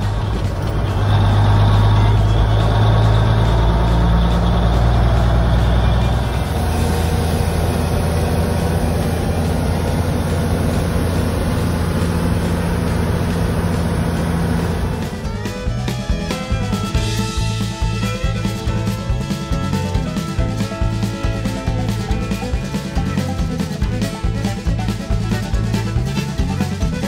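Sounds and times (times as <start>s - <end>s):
truck diesel engine drone: 0.0s - 27.0s.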